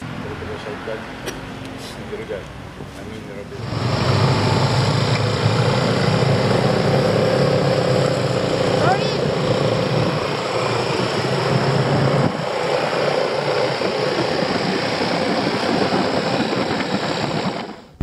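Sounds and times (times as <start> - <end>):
rush of wind and road noise: 0.0 - 18.0
scooter engine hum: 3.5 - 18.0.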